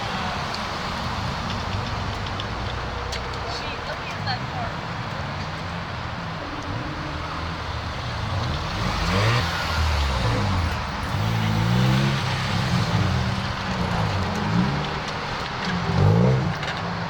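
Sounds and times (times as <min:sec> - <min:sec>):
car engines pulling away: 0:00.0 - 0:17.0.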